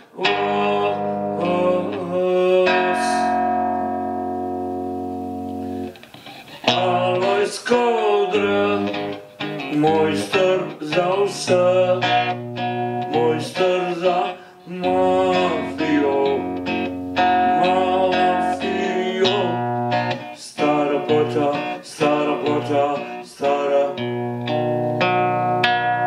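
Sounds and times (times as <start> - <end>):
man singing wordlessly: 0.0 - 3.4, 6.6 - 24.5
nylon-string guitar waltz: 0.0 - 26.0.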